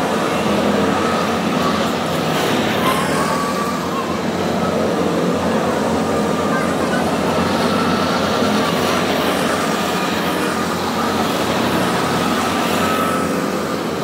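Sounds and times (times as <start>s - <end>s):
go-kart engines droning: 0.0s - 14.0s
go-karts passing close by: 0.0s - 14.0s.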